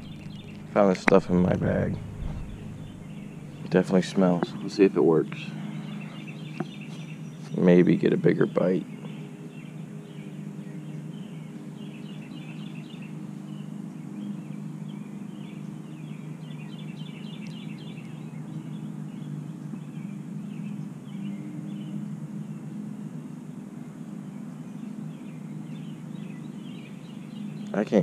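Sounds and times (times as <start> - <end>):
small birds twittering: 0.0 - 28.0
steady low hum: 0.0 - 28.0.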